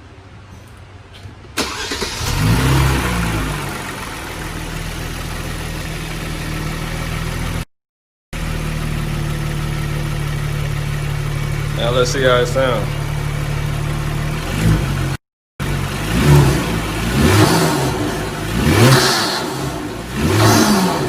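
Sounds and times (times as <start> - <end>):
car engine starting and idling: 1.4 - 7.7, 8.4 - 21.0
engine revving: 1.6 - 7.7, 8.4 - 21.0.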